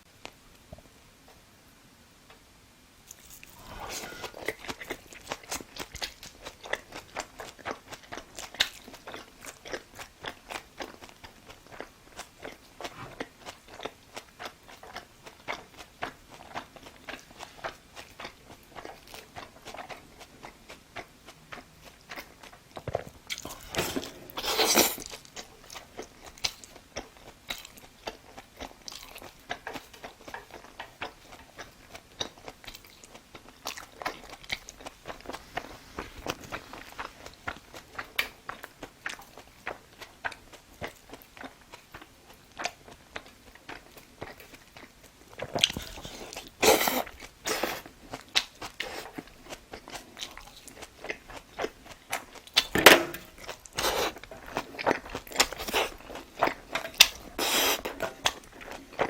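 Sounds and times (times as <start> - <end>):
chewing and crunching food: 3.0 - 59.0.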